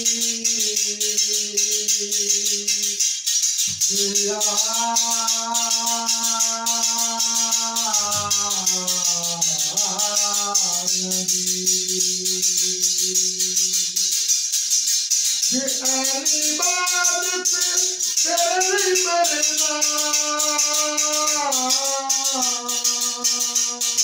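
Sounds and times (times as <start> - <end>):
man singing long notes: 0.0 - 3.0, 3.8 - 14.0, 15.5 - 24.0
jingles struck in rhythm: 0.0 - 24.0.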